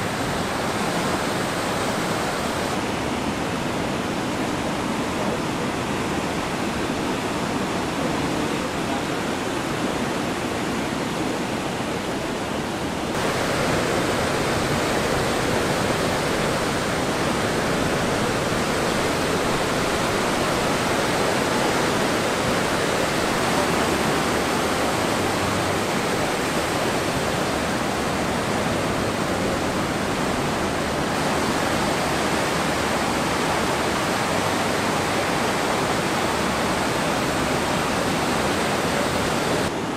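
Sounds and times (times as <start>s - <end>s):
ocean surf breaking: 0.0s - 8.4s, 9.2s - 39.9s.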